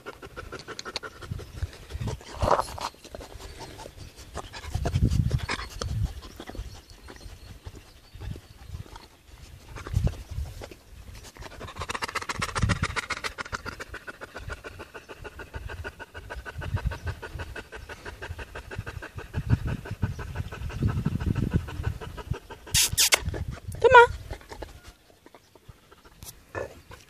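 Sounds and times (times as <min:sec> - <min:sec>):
dog panting: 0:00.0 - 0:27.0.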